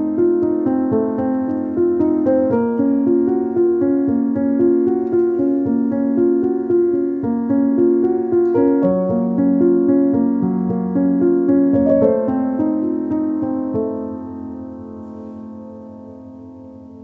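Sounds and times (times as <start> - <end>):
piano keyboard music: 0.0 - 17.0.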